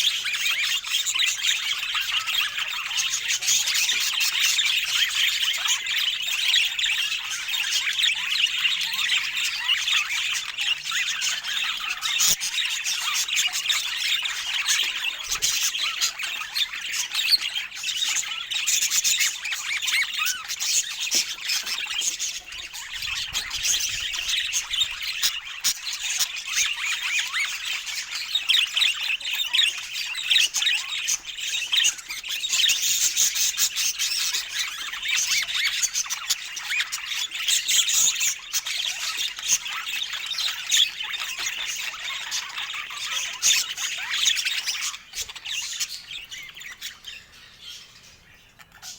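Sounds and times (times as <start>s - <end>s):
budgerigars chattering: 0.0s - 48.9s.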